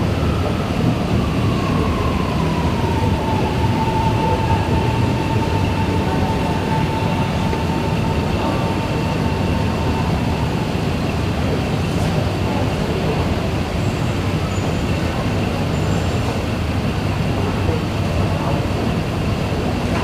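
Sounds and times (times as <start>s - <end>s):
electric train rumble and whine: 0.0s - 20.0s.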